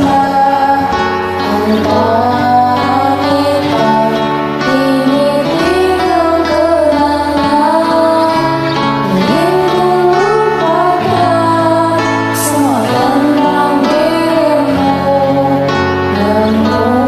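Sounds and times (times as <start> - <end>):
karaoke backing track: 0.0 - 17.0
woman singing: 0.0 - 17.0.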